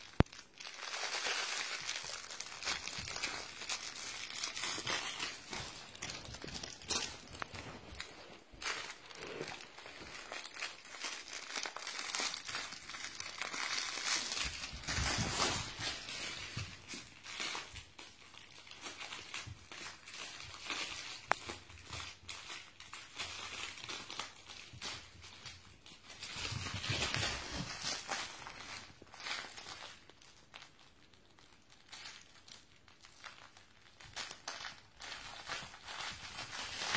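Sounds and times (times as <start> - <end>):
crinkle toy crinkling and rustling: 0.0 - 36.9.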